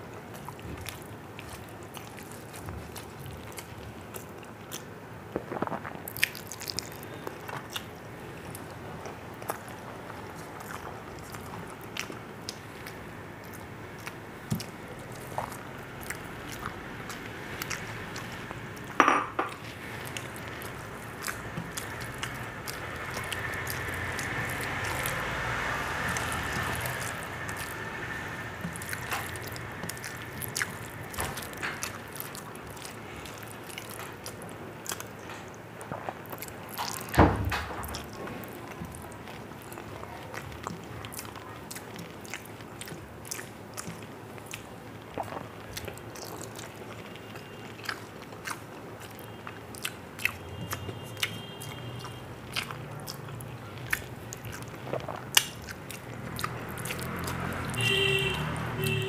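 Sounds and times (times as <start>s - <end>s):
person chewing: 0.0s - 37.2s, 37.8s - 59.0s.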